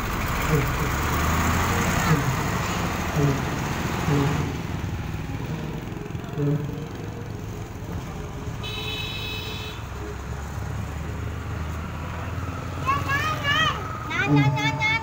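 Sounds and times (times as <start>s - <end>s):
heavy truck diesel engine passing: 0.0s - 15.0s.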